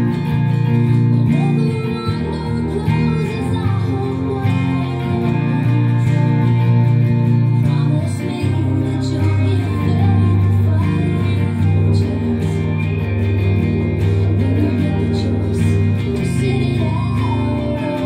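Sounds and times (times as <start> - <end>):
electric guitar strumming chords: 0.0 - 18.0.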